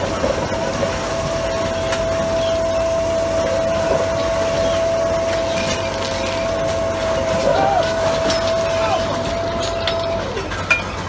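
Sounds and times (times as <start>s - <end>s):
machine high whine: 0.0s - 11.0s
work train engine and machinery: 0.0s - 11.0s.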